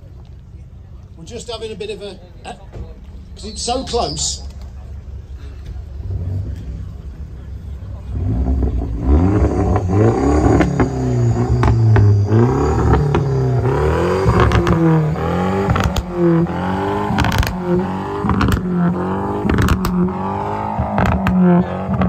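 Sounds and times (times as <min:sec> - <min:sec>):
car engine revving: 0:03.1 - 0:22.0
exhaust cracks: 0:04.0 - 0:22.0.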